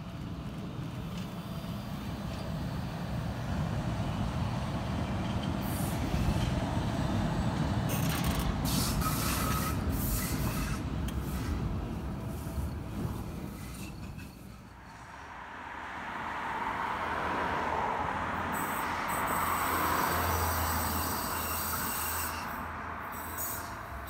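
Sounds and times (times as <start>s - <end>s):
train cars hissing and clattering: 0.0s - 15.3s, 18.5s - 24.0s
electric train passing: 0.0s - 24.0s.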